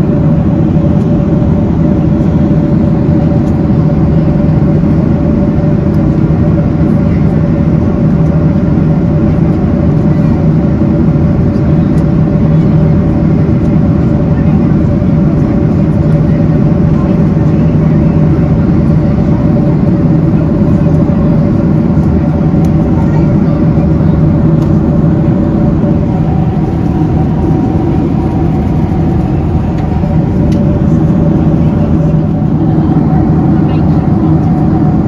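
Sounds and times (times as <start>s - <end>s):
aircraft cabin drone: 0.0s - 35.0s.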